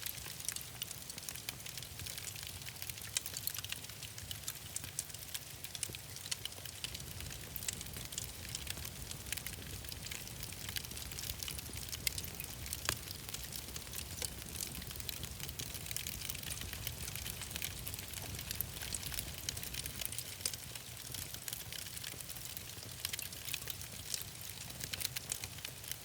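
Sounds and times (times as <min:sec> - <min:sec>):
wood fire crackling: 0:00.0 - 0:26.0
low rumble of flames: 0:00.2 - 0:26.0.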